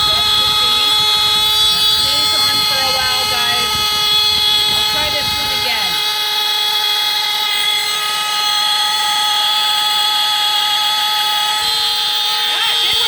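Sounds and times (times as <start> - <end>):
electric alarm horns blaring: 0.0 - 13.0.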